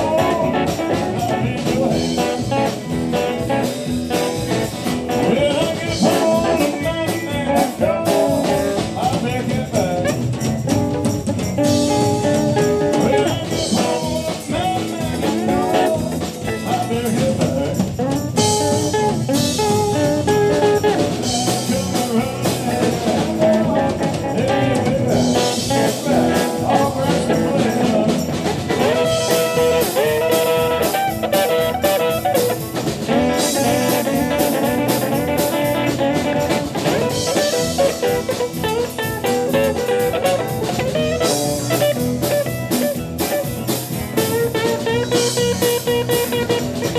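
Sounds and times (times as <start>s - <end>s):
live rockabilly band playing: 0.0s - 46.9s.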